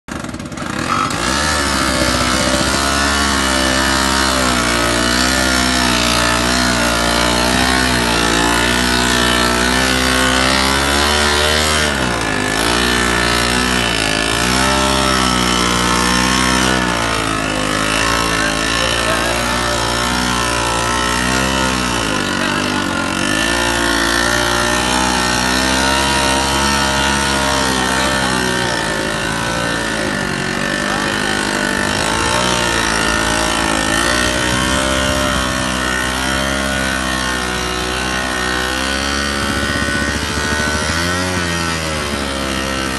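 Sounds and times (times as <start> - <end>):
two-stroke engine running under load: 0.1 - 42.9.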